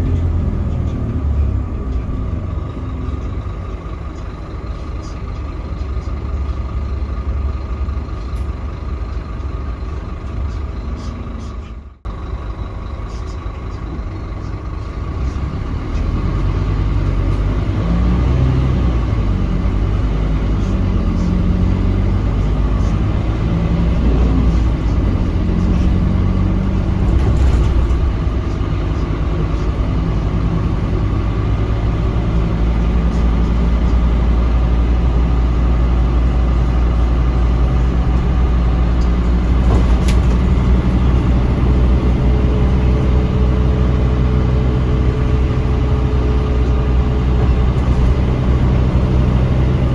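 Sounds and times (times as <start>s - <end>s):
bus diesel engine from inside: 0.0s - 49.9s.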